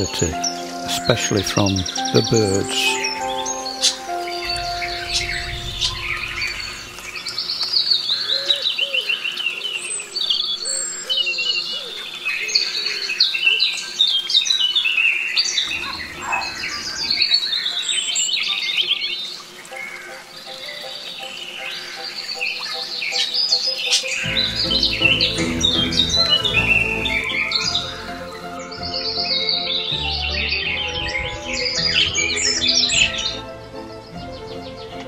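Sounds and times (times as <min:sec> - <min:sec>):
songbirds chirping and trilling: 0:00.0 - 0:35.0.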